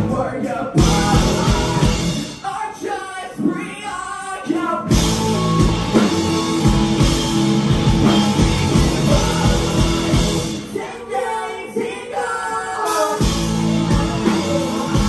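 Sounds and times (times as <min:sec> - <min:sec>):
person singing: 0:00.0 - 0:07.3, 0:07.9 - 0:15.0
live rock band playing: 0:00.0 - 0:12.0, 0:12.7 - 0:15.0.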